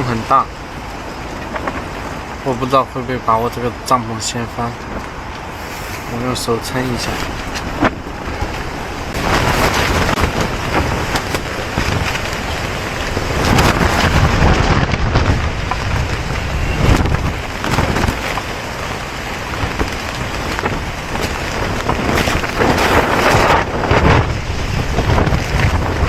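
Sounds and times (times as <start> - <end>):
wind gusting against tent: 0.0 - 26.0
wind striking microphone: 0.0 - 26.0.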